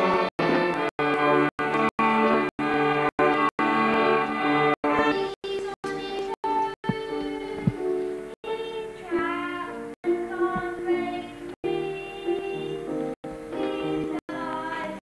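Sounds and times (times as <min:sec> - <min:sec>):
children singing: 0:00.0 - 0:12.9, 0:13.5 - 0:15.0
musical accompaniment: 0:00.0 - 0:15.0.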